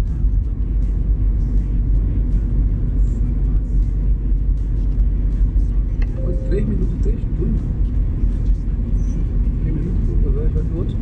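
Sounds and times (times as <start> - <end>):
car interior engine and tyre noise: 0.0 - 11.0.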